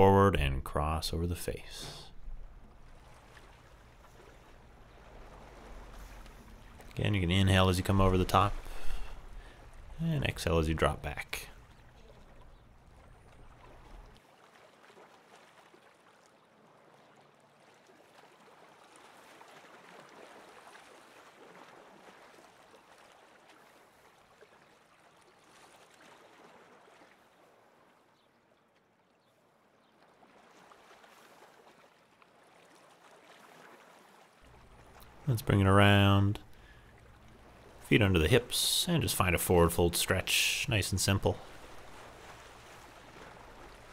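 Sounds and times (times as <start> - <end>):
water lapping on stony shore: 2.1 - 10.1, 11.2 - 38.1, 41.3 - 43.9.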